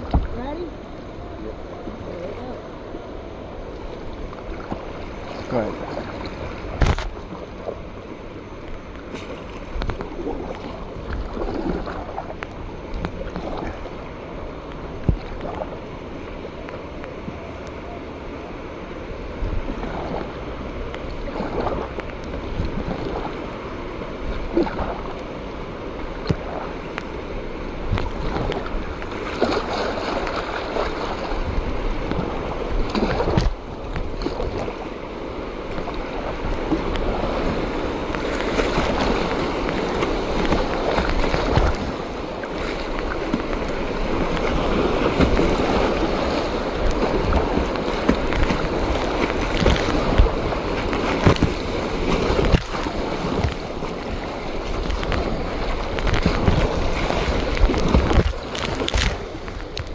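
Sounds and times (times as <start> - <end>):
kayak paddle splashing: 0.0 - 59.9
river water rushing against hull: 0.0 - 59.9.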